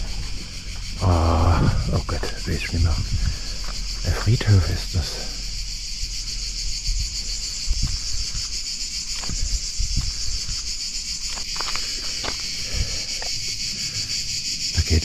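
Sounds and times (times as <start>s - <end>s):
soft low thumps: 0.0s - 13.5s
cicadas singing: 0.0s - 15.0s.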